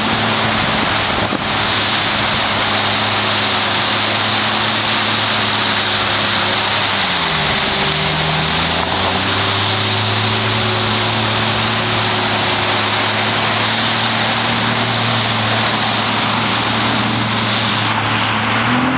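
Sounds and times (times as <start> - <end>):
boat engine running: 0.0 - 18.9
rushing water: 0.0 - 18.9.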